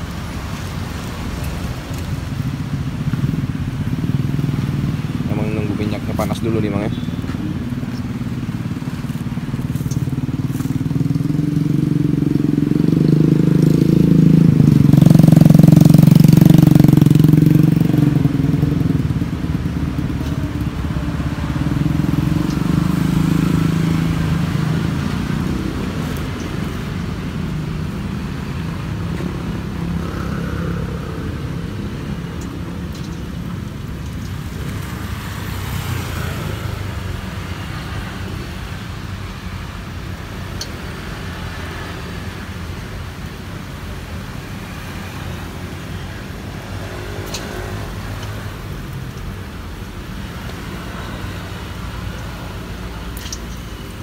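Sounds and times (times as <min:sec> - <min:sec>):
vehicles passing by: 0:00.0 - 0:54.0.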